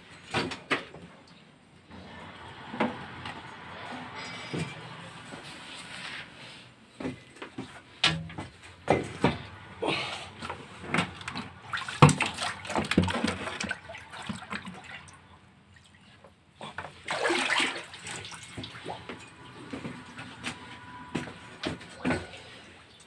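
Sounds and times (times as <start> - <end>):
water splashing and sloshing: 0.1 - 23.0.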